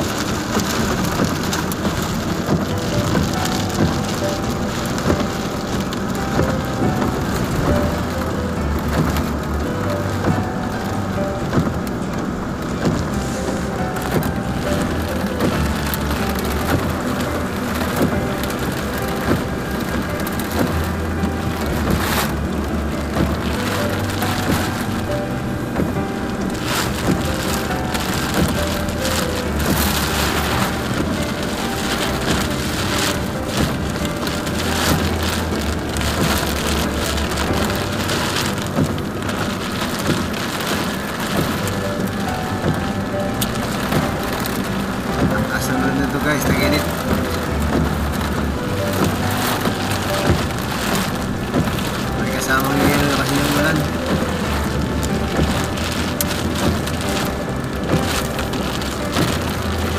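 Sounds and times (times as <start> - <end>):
car and tyres humming: 0.0 - 59.9
heavy rain on windshield: 0.0 - 59.9.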